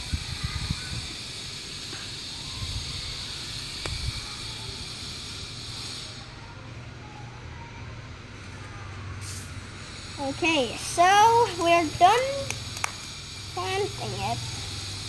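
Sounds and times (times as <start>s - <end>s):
high-pitched hiss: 0.0s - 6.8s, 9.1s - 15.0s.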